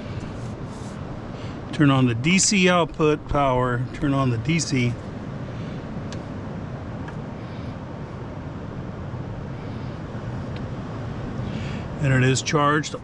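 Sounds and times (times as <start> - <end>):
ocean surf roaring: 0.0 - 13.0.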